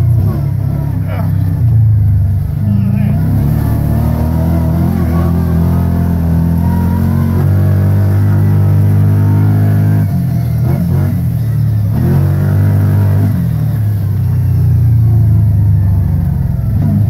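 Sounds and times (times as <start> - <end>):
off-road vehicle engine climbing: 0.0 - 17.0.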